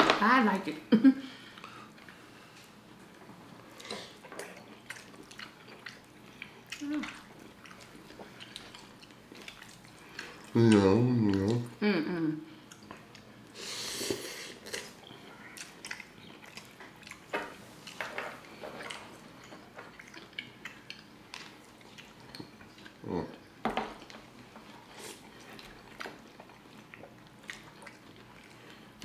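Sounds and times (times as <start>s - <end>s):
people chewing: 1.3s - 29.0s.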